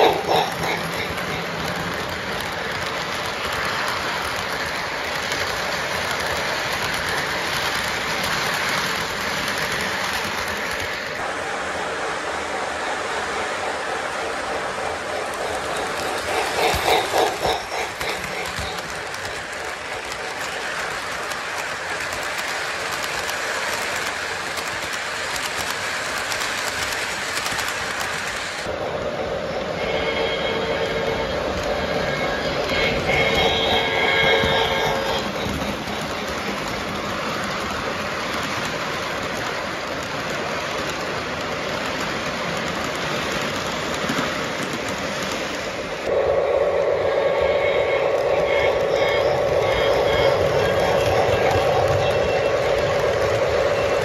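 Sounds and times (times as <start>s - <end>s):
model train wheels rattling on track: 0.0s - 11.2s, 13.0s - 28.7s, 29.7s - 46.3s.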